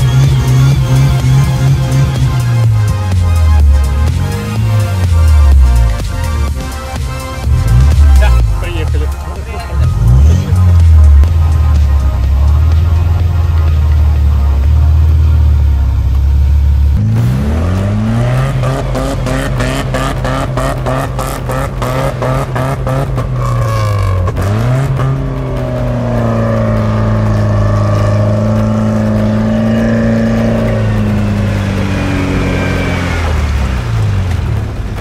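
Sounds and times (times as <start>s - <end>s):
engine revving hard: 0.0s - 6.5s, 7.4s - 13.4s, 16.9s - 35.0s.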